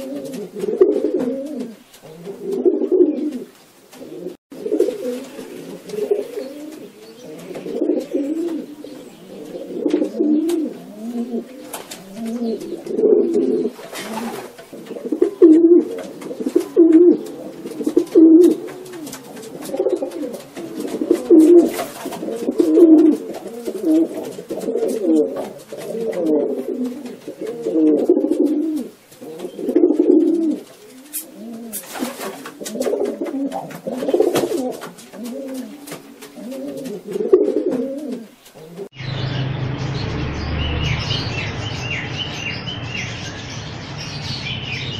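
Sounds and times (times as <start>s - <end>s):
pigeons cooing: 0.0s - 39.0s.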